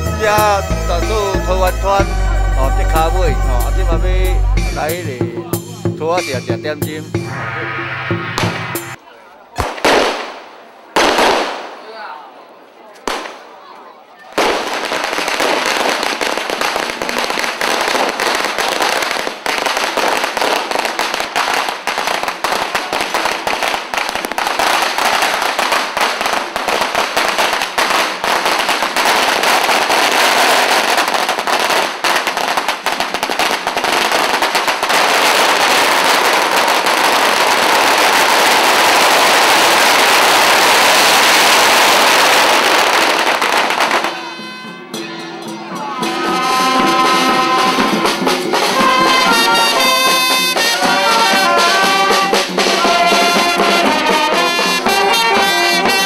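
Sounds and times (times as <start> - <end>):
firecrackers crackling: 0.0 - 45.0, 46.2 - 56.0.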